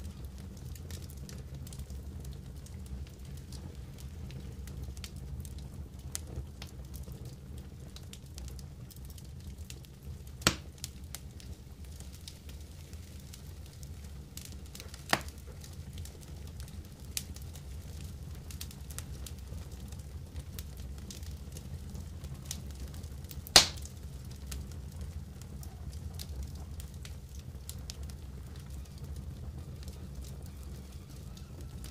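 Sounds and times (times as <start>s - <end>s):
campfire coals crackling: 0.0s - 31.9s.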